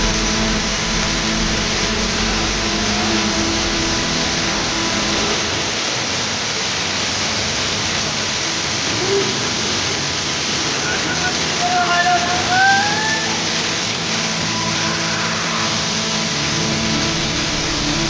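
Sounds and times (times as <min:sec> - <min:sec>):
faint music: 0:00.0 - 0:18.0
waterfall roaring: 0:00.0 - 0:18.0.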